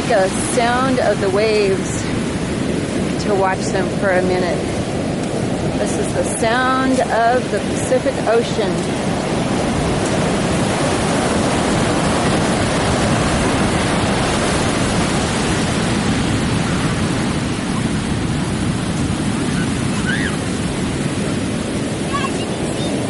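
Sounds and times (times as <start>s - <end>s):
breaking waves rushing: 0.0s - 23.0s.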